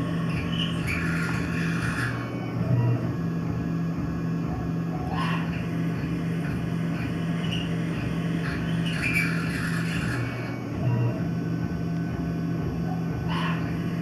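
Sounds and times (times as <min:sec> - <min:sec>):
low machine tone: 0:00.0 - 0:14.0
milling machine humming: 0:00.0 - 0:14.0.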